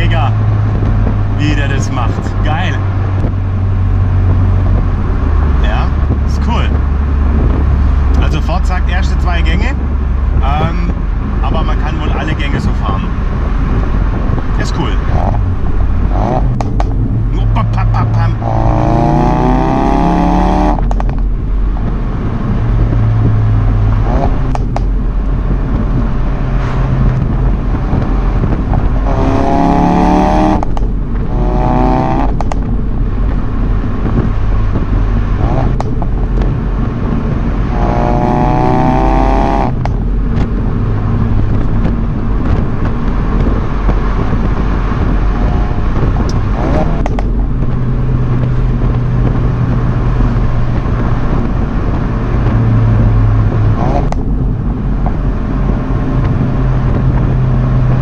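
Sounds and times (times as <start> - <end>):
car engine revving hard: 0.0 - 21.1, 21.8 - 58.0
engine and road drone: 0.0 - 58.0.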